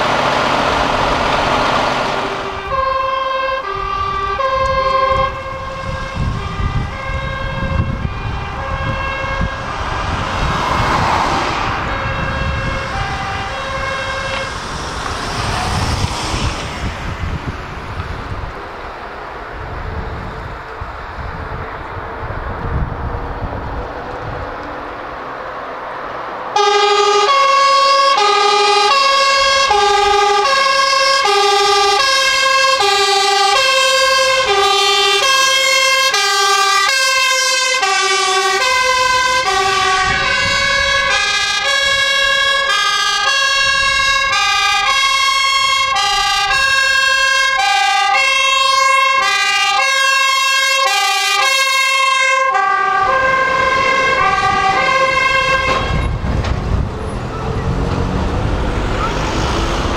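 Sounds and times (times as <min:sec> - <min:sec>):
two-tone fire engine siren: 0:00.0 - 0:17.4, 0:26.5 - 0:59.9.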